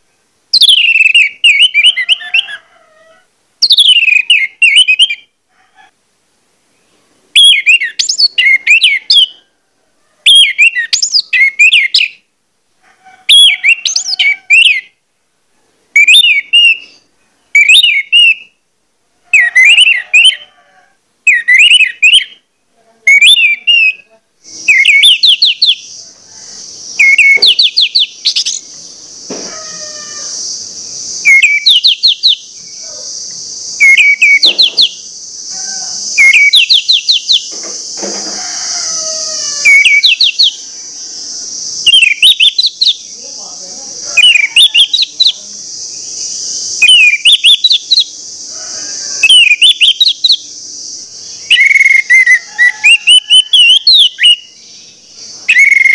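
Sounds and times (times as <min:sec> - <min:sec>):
thrush singing whistled notes: 0:00.0 - 0:02.5, 0:03.6 - 0:05.3, 0:07.4 - 0:09.5, 0:10.3 - 0:12.3, 0:16.0 - 0:18.6, 0:19.4 - 0:20.5, 0:21.3 - 0:22.5, 0:23.1 - 0:43.6, 0:44.2 - 0:55.9
steady high hiss: 0:00.0 - 0:13.0, 0:13.6 - 0:19.3, 0:19.9 - 0:55.9.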